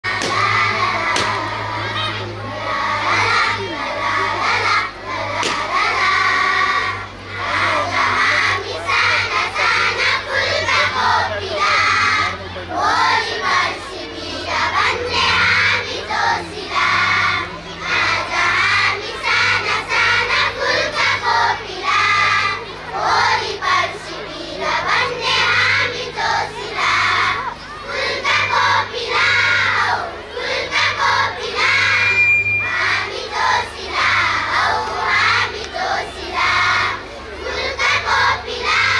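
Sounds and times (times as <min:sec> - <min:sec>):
children singing in unison: 0:00.0 - 0:38.9
steady low hum: 0:00.0 - 0:38.9.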